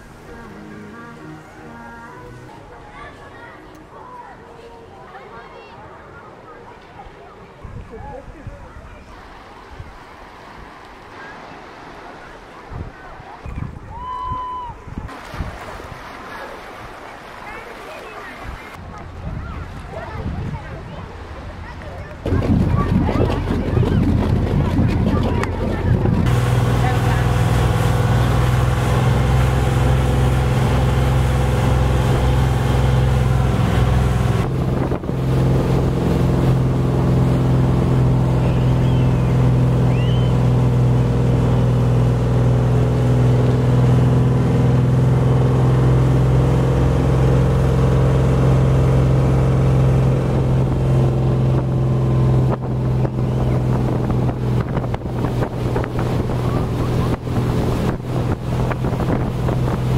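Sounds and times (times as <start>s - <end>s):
speedboat engine drone: 0.0s - 13.1s, 19.9s - 59.9s
water rushing: 0.0s - 59.9s.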